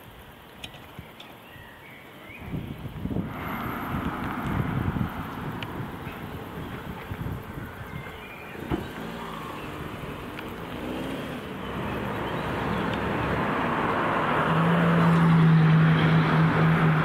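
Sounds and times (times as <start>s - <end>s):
low engine hum: 2.5s - 17.0s
vehicle approaching: 3.1s - 17.0s.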